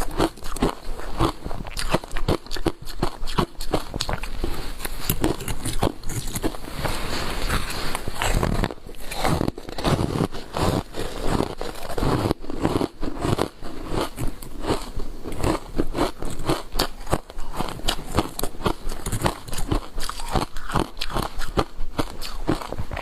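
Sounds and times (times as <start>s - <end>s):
ice crunching when chewed: 0.0s - 23.0s.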